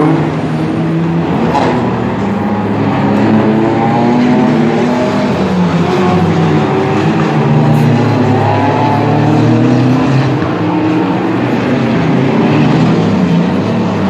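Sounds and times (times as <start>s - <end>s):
race car engines at high revs: 0.0s - 14.0s.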